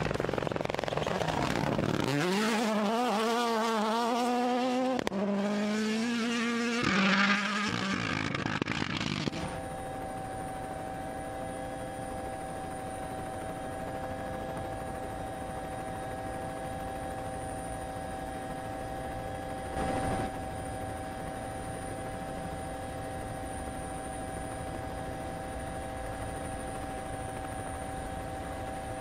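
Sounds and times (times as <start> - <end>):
helicopter whine and rumble: 0.0 - 29.0.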